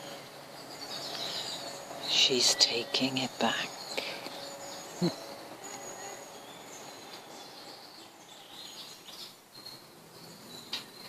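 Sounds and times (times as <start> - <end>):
faint outdoor hiss: 0.0 - 11.0
small birds chirping: 0.0 - 11.0.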